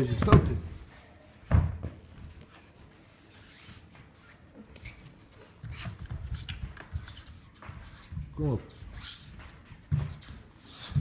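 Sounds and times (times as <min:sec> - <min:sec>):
bare feet shuffling on mat: 0:00.0 - 0:11.0.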